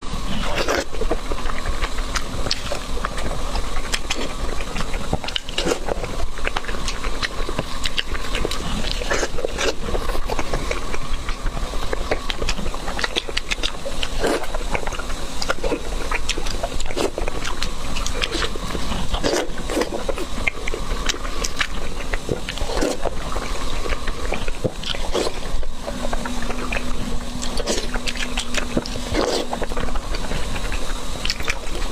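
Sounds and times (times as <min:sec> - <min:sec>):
chewing crispy fried food: 0:00.0 - 0:31.9
faint hum: 0:00.0 - 0:31.9.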